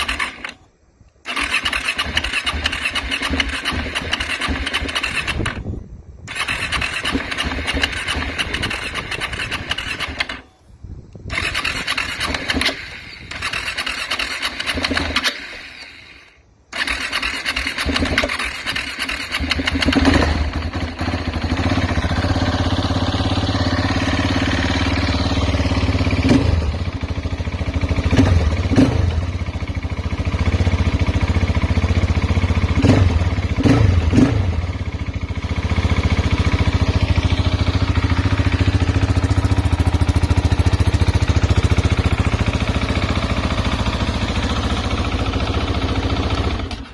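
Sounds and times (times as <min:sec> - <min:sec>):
motorcycle starter cranking: 0:00.0 - 0:10.5, 0:11.2 - 0:46.9
motorcycle engine running: 0:06.3 - 0:10.4, 0:11.3 - 0:15.4, 0:16.8 - 0:46.9.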